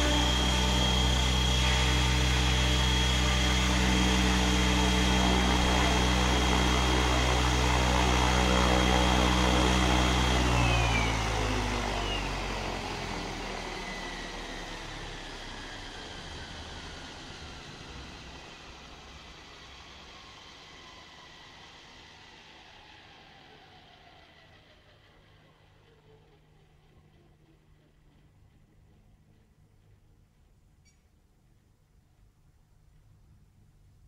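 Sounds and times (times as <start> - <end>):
high motor whine: 0.0 - 29.6
model helicopter rotor spinning: 0.0 - 31.0.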